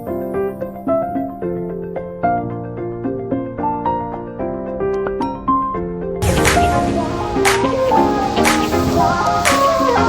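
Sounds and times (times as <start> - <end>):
soft piano-like keyboard melody: 0.0 - 10.0.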